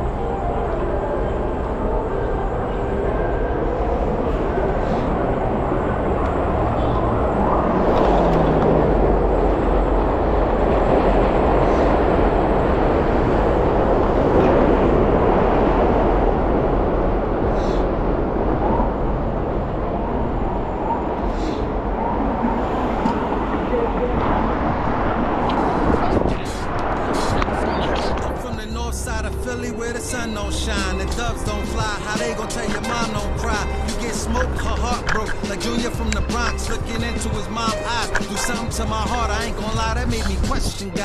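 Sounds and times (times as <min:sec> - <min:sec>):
road and tyre noise: 0:00.0 - 0:41.0
traffic: 0:00.0 - 0:41.0
wind buffeting microphone: 0:00.0 - 0:41.0.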